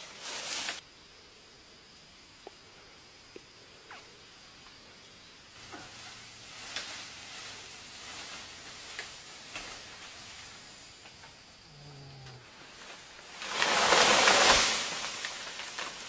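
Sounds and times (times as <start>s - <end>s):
faint rustling hiss: 0.0s - 16.0s.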